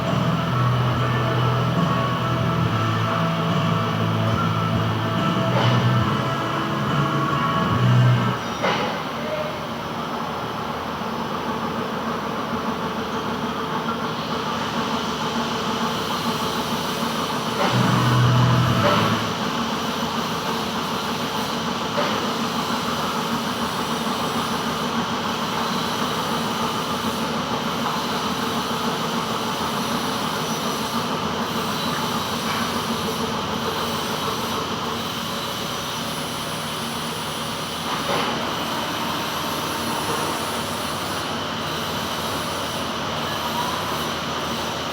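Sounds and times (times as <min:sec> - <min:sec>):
metal lathe running: 0:00.0 - 0:44.9.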